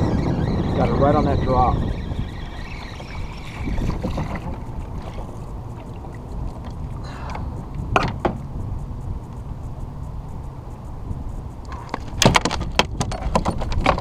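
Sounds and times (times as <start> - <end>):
water noise: 0.0 - 14.0
wind noise: 0.0 - 14.0.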